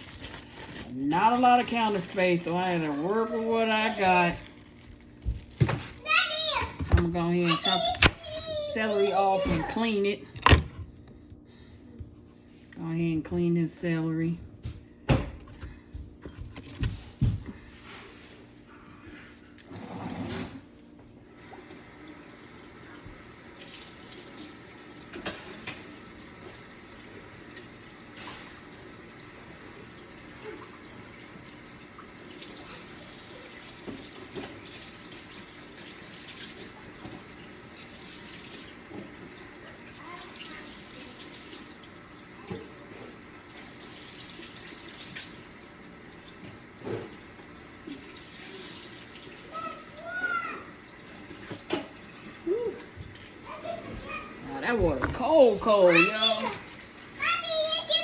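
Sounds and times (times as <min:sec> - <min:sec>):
kitchen faucet running: 0:00.0 - 0:10.6, 0:21.3 - 0:58.0.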